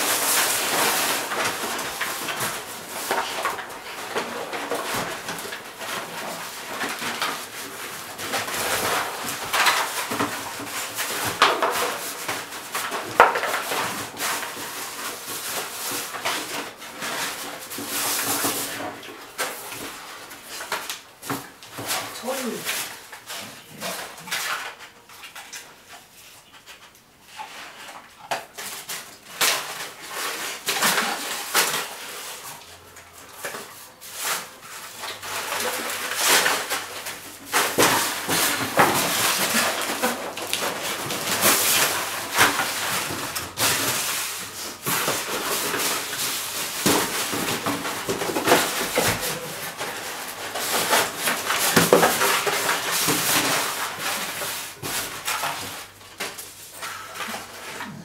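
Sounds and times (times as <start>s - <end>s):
dog tearing paper and cardboard: 0.0s - 58.0s.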